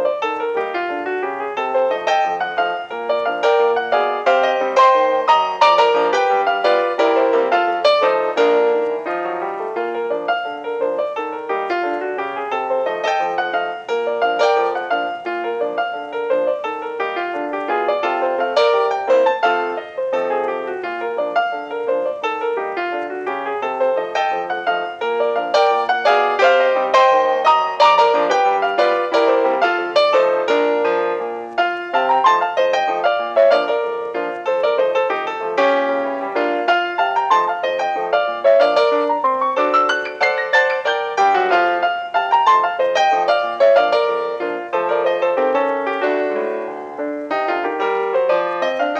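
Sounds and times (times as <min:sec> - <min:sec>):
fast piano music: 0:00.0 - 0:48.9.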